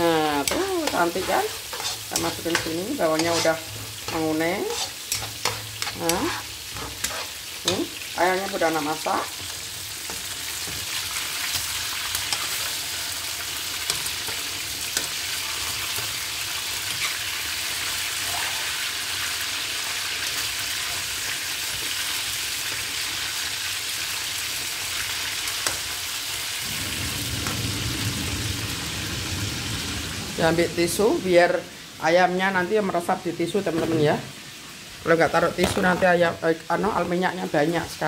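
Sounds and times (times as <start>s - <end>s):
chicken sizzling in hot oil: 0.0s - 32.3s, 33.7s - 36.0s.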